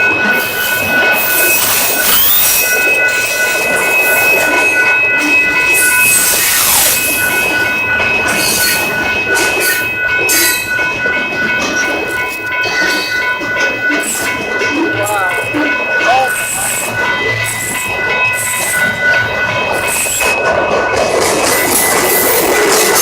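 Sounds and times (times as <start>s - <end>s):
train cars clattering on rails: 0.0s - 23.0s
train wheels squealing: 0.0s - 23.0s.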